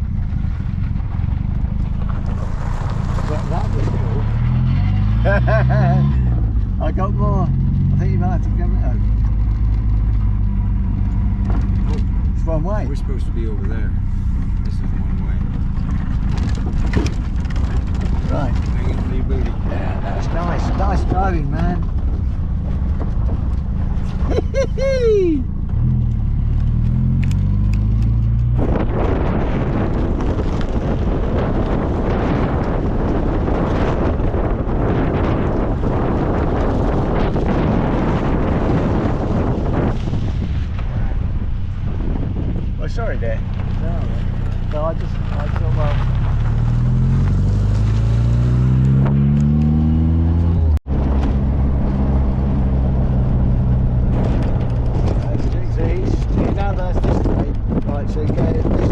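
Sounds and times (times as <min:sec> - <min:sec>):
car engine pulling away: 0:00.0 - 0:58.9
wind rushing over microphone: 0:00.0 - 0:58.9.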